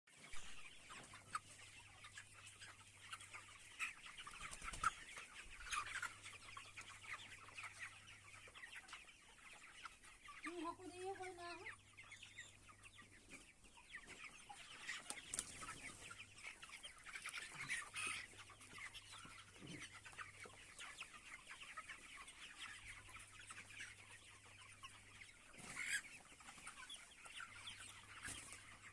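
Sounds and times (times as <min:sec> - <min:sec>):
chickens clucking: 0:00.1 - 0:28.9.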